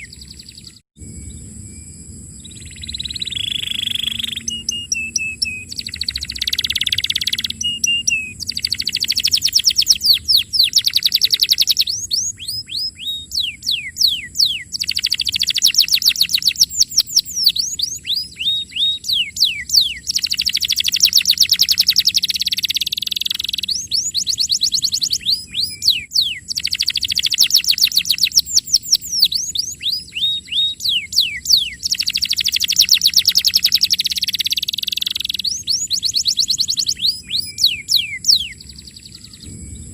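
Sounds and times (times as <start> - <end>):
canary singing trills: 0.0 - 1.5, 2.4 - 39.9.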